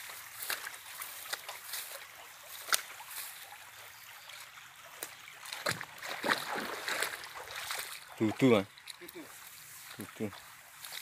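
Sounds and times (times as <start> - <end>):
stream trickling over stones: 0.0 - 11.0.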